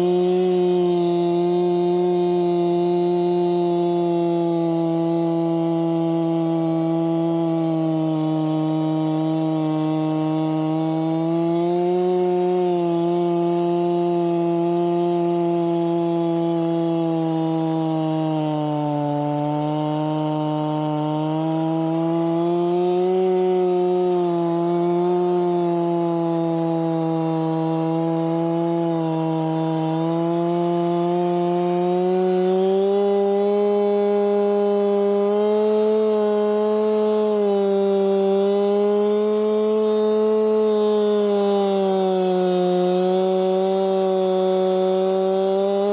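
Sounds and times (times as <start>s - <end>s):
chainsaw cutting through log: 0.0s - 45.9s.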